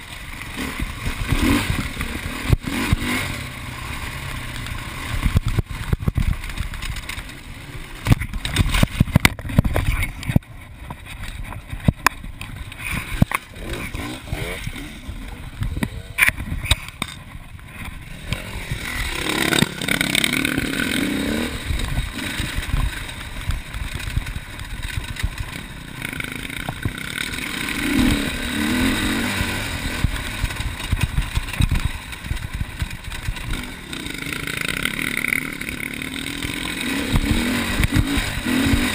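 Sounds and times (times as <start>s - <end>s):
bike knocking and rattling: 0.0s - 38.9s
dirt bike engine revving: 0.0s - 38.9s.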